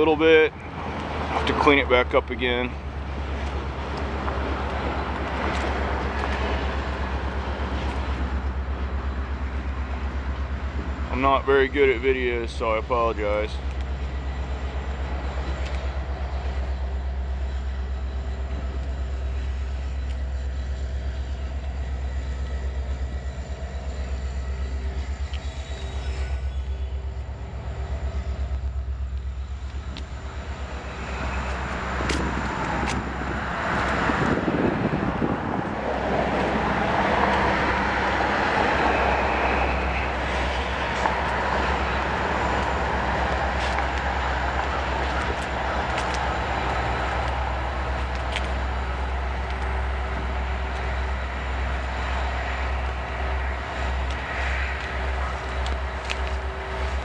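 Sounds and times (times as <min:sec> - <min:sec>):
low vehicle rumble: 0:00.0 - 0:57.0.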